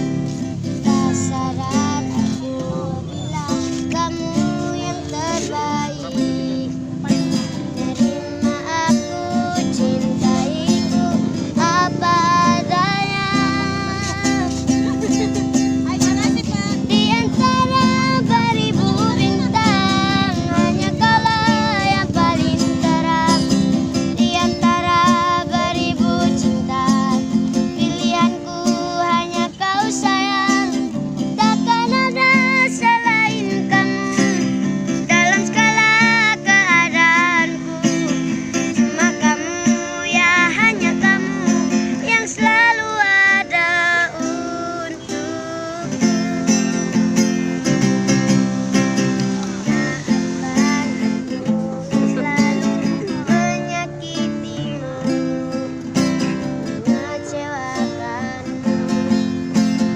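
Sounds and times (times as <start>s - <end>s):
child singing with vibrato: 0.0s - 59.9s
guitar accompaniment: 0.0s - 59.9s.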